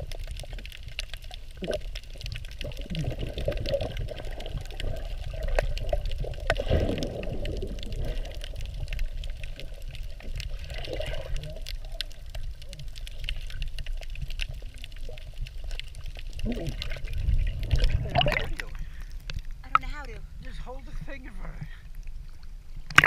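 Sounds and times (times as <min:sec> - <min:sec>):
low underwater rumble: 0:00.0 - 0:23.0
muffled water sloshing and gurgling: 0:00.0 - 0:23.0.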